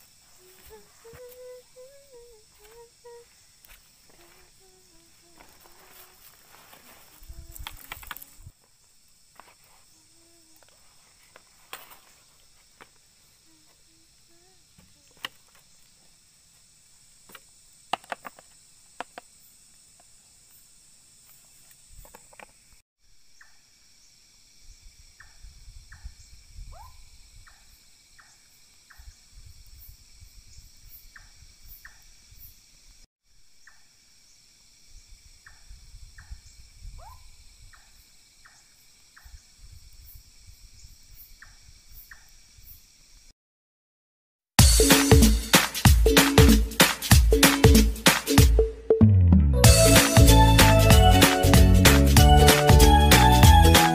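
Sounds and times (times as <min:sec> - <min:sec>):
insects trilling: 0:00.0 - 0:43.3
short insect chirps: 0:00.0 - 0:43.3.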